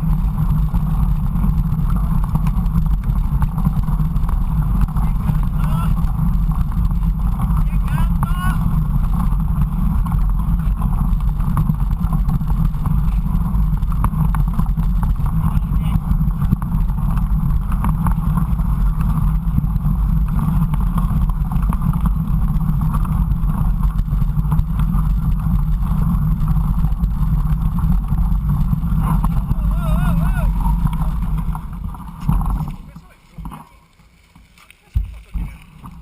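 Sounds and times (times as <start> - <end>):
wind buffeting microphone: 0.0 - 33.5
mountain bike rolling on trail: 0.0 - 36.0.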